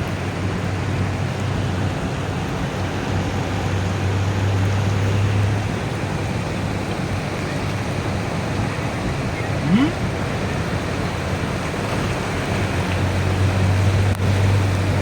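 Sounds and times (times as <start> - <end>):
vehicle engine humming: 0.0 - 15.0
water rushing on road: 0.0 - 15.0.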